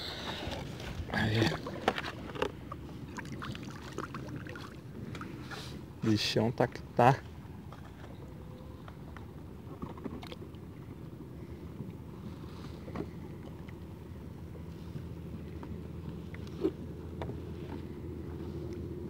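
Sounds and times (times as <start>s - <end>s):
water rumbling against kayak: 0.0s - 6.0s, 7.4s - 19.0s.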